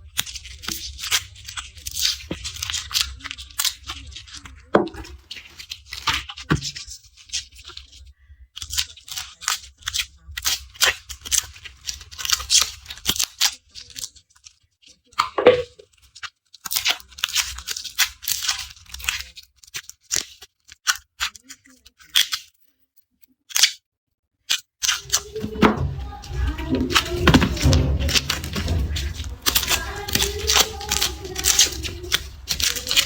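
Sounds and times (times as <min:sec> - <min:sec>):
garlic skins crackling and tearing: 0:00.1 - 0:14.6, 0:15.9 - 0:22.6, 0:24.5 - 0:33.0.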